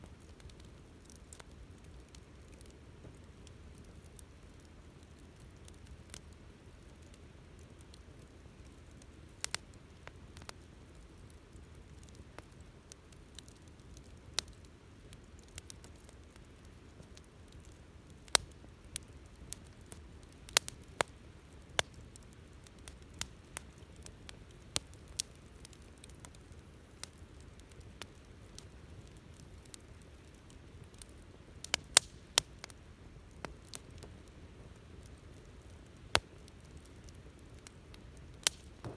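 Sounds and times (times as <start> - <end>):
bonfire crackling and popping: 0.0 - 38.9.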